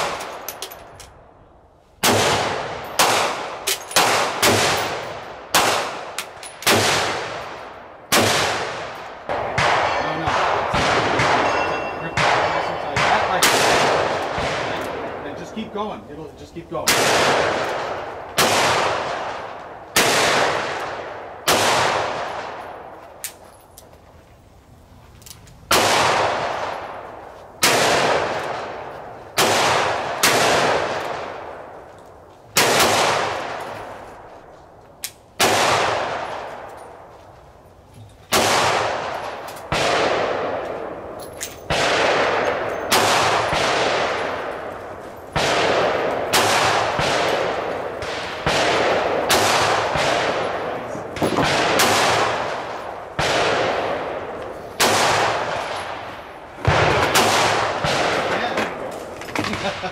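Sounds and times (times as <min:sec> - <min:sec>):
gunshots with long echo: 0:00.0 - 0:00.5, 0:02.0 - 0:23.0, 0:25.7 - 0:31.9, 0:32.5 - 0:34.3, 0:35.4 - 0:37.1, 0:38.3 - 0:59.9.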